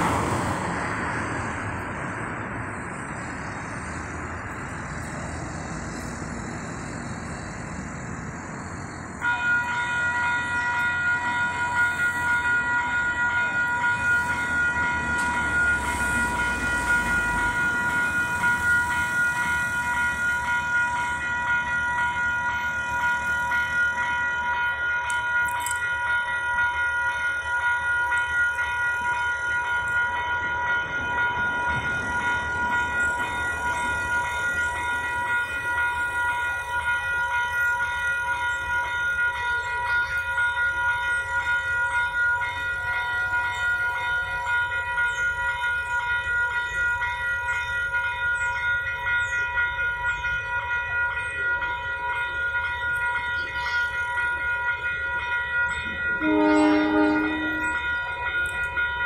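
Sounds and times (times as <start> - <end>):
level crossing warning bells: 0.0 - 59.0.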